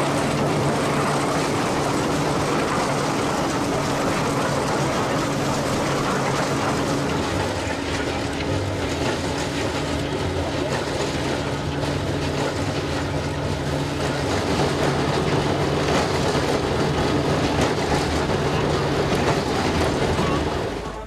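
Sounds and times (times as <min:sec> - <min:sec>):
engine hum: 0:00.0 - 0:21.0
threshing machine drone: 0:00.0 - 0:21.0.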